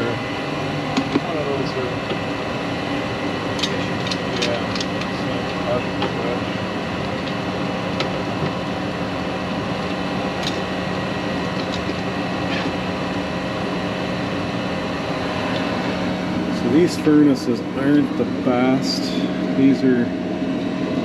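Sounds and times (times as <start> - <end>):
gas furnace humming: 0.0 - 21.0.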